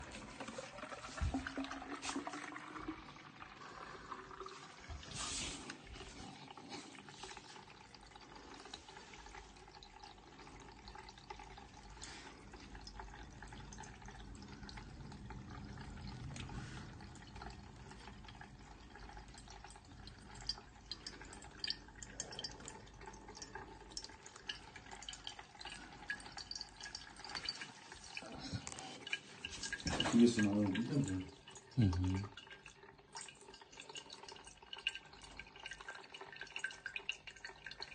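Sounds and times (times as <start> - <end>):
water trickling and dripping: 0.0 - 37.9.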